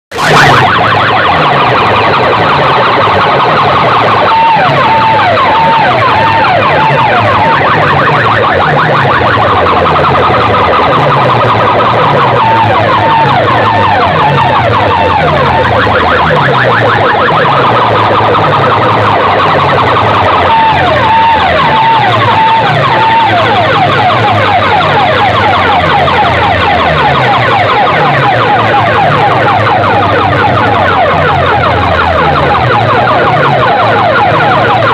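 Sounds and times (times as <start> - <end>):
pulsing bass beat: 0.1 - 34.9
siren-like sweeping tones: 0.1 - 34.9.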